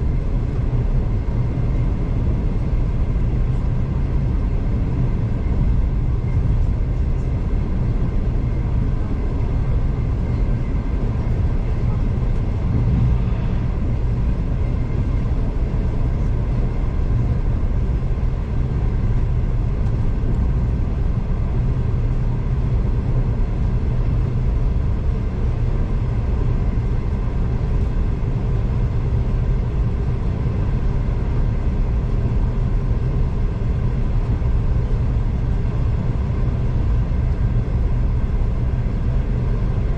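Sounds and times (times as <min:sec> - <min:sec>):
faint constant hum: 0:00.0 - 0:39.9
train rumbling on track: 0:00.0 - 0:39.9.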